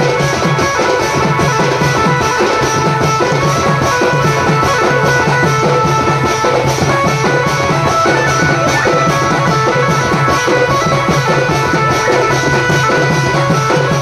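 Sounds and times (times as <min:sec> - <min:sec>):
band music over loudspeakers: 0:00.0 - 0:14.0
steady drumbeat: 0:00.0 - 0:14.0.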